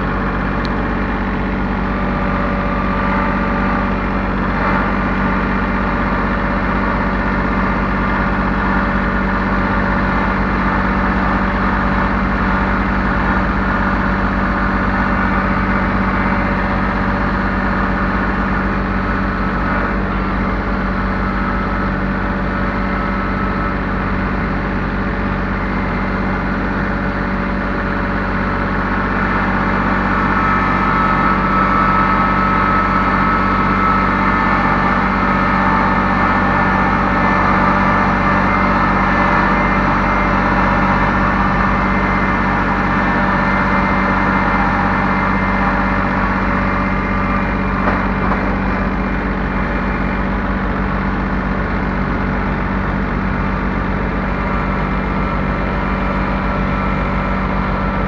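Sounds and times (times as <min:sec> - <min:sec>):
heavy equipment engine running: 0:00.0 - 0:58.0.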